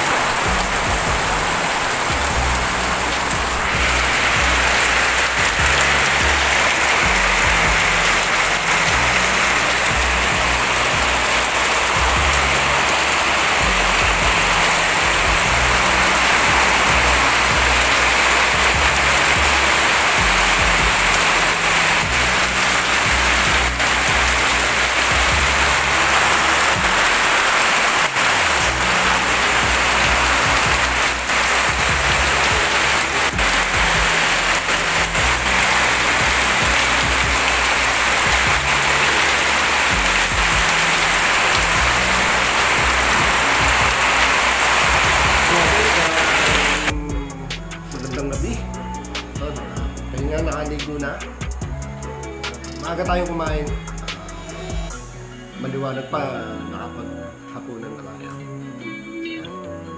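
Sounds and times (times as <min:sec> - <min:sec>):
heavy rain falling: 0:00.0 - 0:55.1
background music with bass line: 0:00.0 - 0:59.9.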